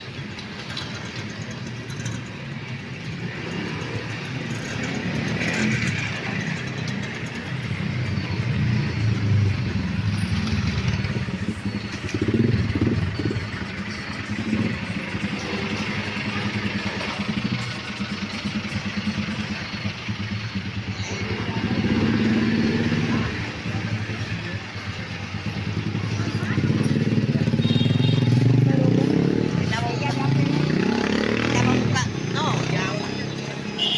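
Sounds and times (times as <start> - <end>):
street noise: 0.0 - 33.9
vehicle engine running: 0.0 - 33.9.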